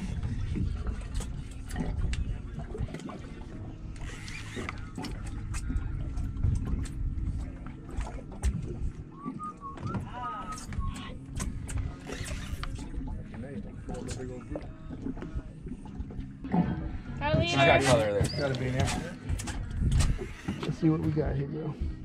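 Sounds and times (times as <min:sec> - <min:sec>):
wind on microphone: 0:00.0 - 0:03.4, 0:04.0 - 0:13.3, 0:15.3 - 0:20.9
outboard motors rumbling: 0:00.0 - 0:22.0.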